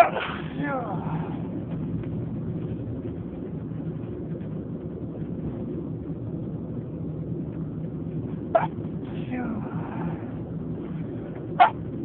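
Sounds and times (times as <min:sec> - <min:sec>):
faint hum: 0:00.0 - 0:12.0
train rumbling: 0:00.0 - 0:12.0.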